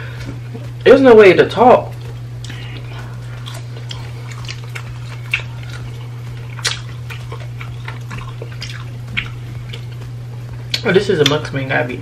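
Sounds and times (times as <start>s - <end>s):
chewing and crunching food: 0.0s - 12.0s
steady low hum: 0.0s - 12.0s.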